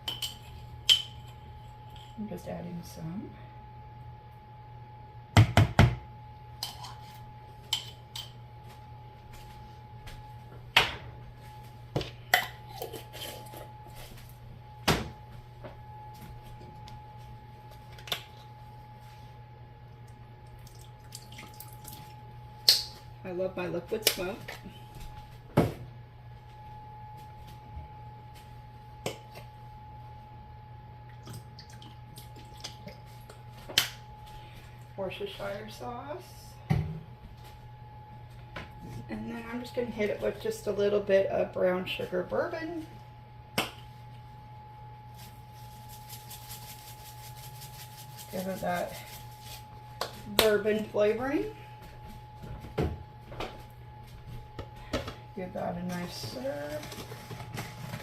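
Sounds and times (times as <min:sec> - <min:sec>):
low hum: 0:00.0 - 0:05.4, 0:06.0 - 0:58.0.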